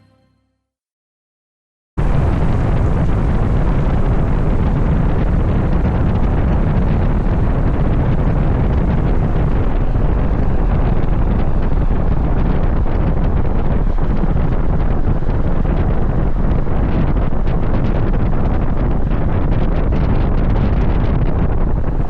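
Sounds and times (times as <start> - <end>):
wind rumbling on microphone: 2.0 - 22.0.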